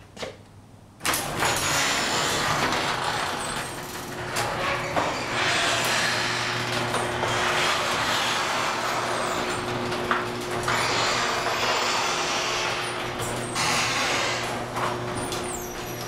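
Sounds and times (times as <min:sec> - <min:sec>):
garage door opener humming: 0:01.0 - 0:16.0.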